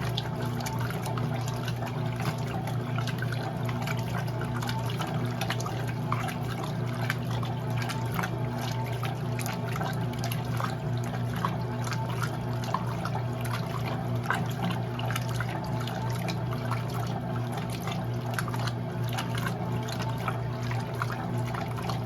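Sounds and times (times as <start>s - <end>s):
washing machine low hum: 0.0s - 22.0s
water splashing in washing machine: 0.0s - 22.0s.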